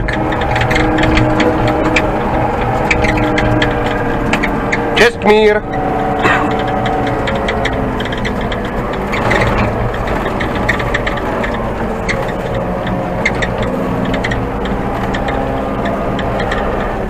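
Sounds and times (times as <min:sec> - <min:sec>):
diesel engine running: 0:00.0 - 0:17.0
machine clicking and rattling: 0:00.0 - 0:17.0.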